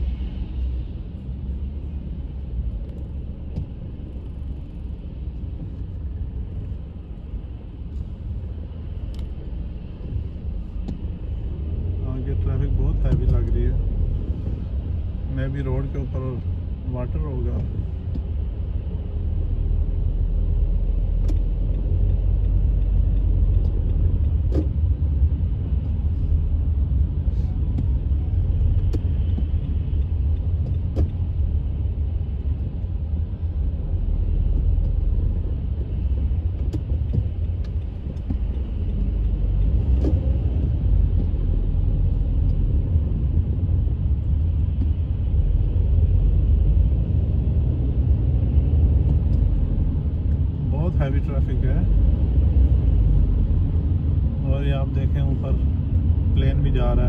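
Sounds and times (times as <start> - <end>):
car cabin rumble: 0.6 - 57.0.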